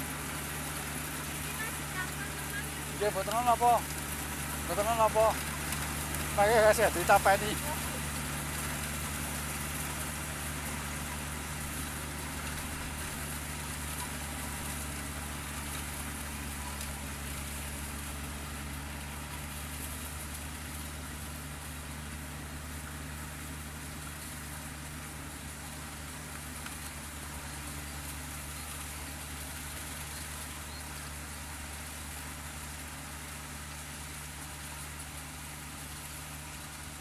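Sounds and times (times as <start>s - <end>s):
diesel engine humming: 0.0s - 37.0s.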